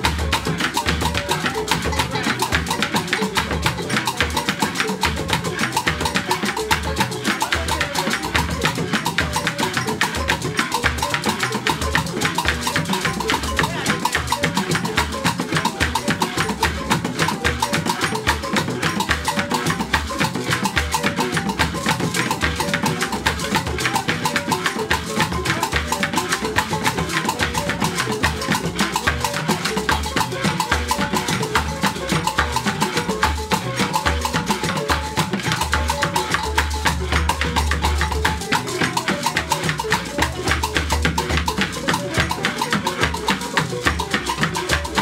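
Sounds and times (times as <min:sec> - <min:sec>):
gourd rattles shaking: 0:00.0 - 0:45.0
hand percussion: 0:00.0 - 0:45.0
upturned calabash drum struck with stick: 0:00.0 - 0:45.0.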